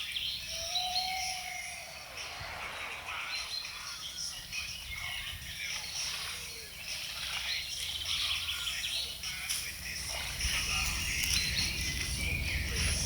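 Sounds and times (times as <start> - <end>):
birds chirping: 0.0 - 13.0
outdoor background noise: 0.0 - 13.0.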